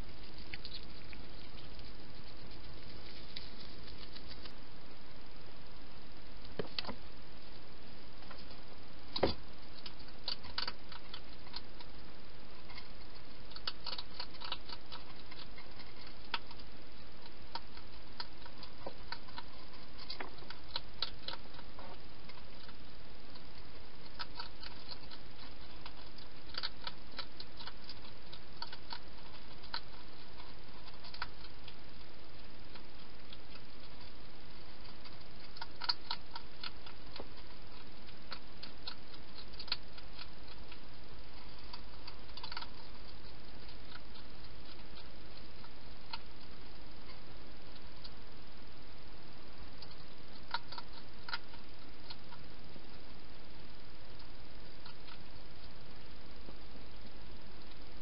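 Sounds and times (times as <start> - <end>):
hedgehog eating crunches: 0.0 - 4.8, 6.4 - 58.0
steady hiss: 0.0 - 58.0.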